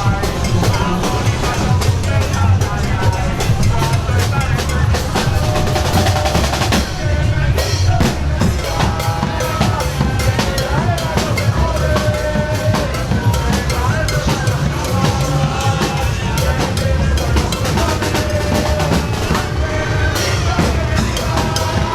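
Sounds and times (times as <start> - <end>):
loud music with drum beat: 0.0 - 21.9.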